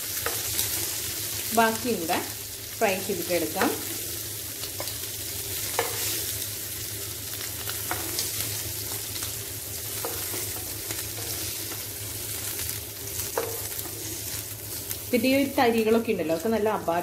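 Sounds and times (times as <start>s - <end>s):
prawns sizzling in oil: 0.0s - 17.0s.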